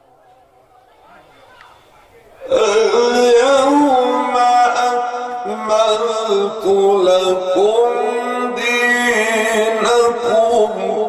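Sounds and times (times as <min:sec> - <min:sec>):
man chanting: 0:00.9 - 0:11.0.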